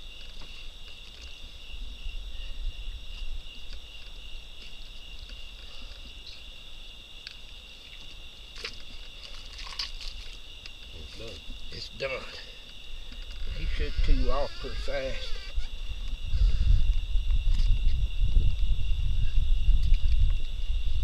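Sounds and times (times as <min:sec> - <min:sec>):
night insects chorus: 0:00.0 - 0:21.0.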